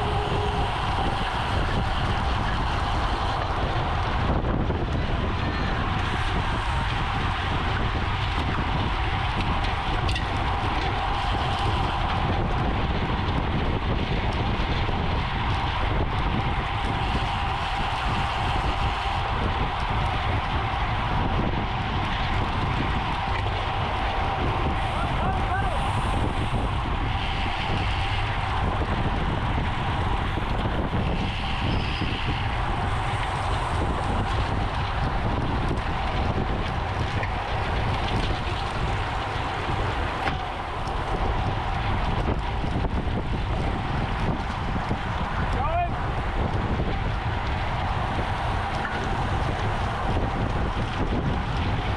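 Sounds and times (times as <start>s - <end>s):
bicycle rolling noise: 0.0s - 51.9s
wind on microphone: 0.0s - 51.9s.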